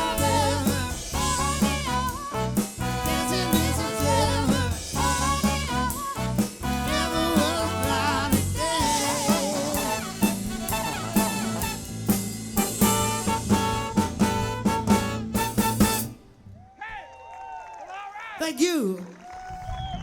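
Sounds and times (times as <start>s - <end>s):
accented drum hits: 0.0s - 16.2s
soul band playing: 0.0s - 16.5s.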